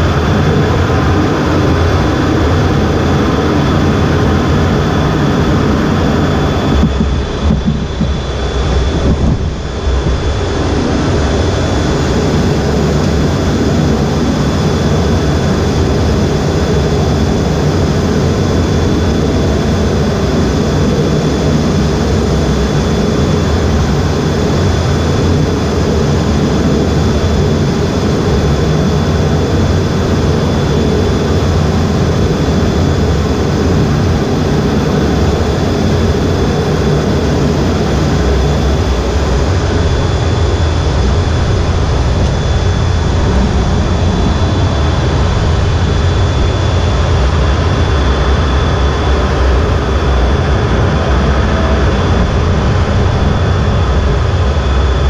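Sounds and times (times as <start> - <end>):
high jet whine: 0.0 - 55.0
jet engine rumble: 0.0 - 55.0.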